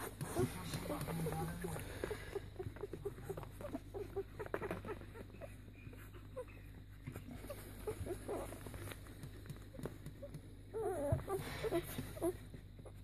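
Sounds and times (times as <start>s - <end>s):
puppies squeaking and grunting: 0.0s - 13.0s.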